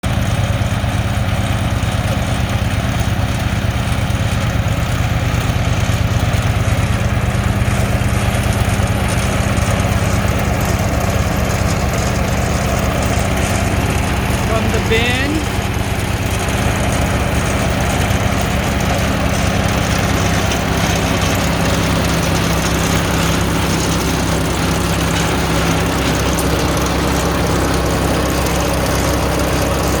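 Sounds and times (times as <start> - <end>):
compost shredder engine drone: 0.0 - 30.0
rough shredding noise: 0.1 - 30.0.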